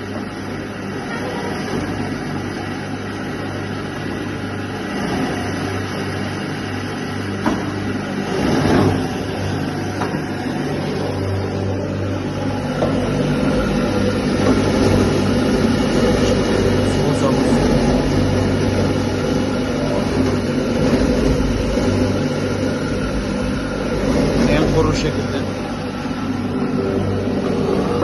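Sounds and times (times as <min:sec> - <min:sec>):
motor humming: 0:00.0 - 0:28.0
churning noise: 0:04.6 - 0:28.0.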